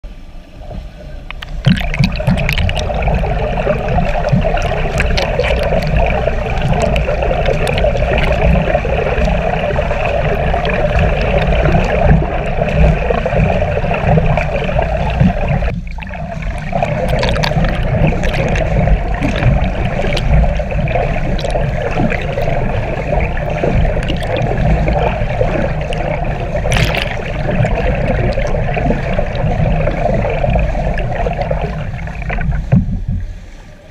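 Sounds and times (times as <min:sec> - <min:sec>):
pool water splashing: 0:00.3 - 0:33.9.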